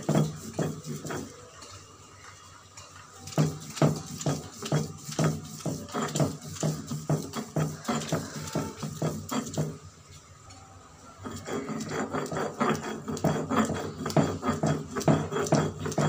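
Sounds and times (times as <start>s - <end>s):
stone roller rubbing on grinding stone: 0.0s - 1.7s, 3.2s - 9.9s, 11.1s - 16.0s.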